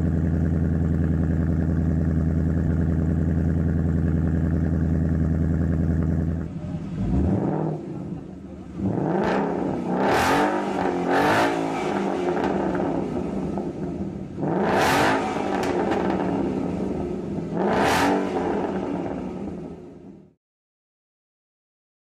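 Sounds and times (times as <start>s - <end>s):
car engine rev blips: 0.0s - 20.3s
uneven engine idle: 0.0s - 20.4s.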